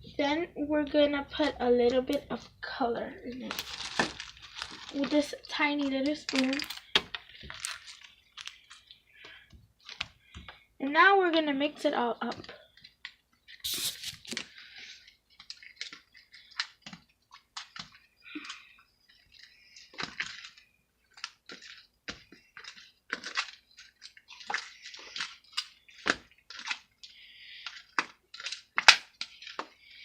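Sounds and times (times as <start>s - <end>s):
wet squishing of slime: 0.2s - 10.7s, 12.0s - 30.0s.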